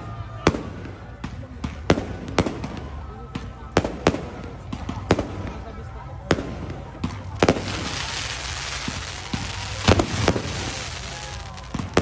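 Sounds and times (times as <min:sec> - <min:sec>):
fireworks bangs: 0:00.2 - 0:12.0
fireworks crackling hiss: 0:00.5 - 0:12.0.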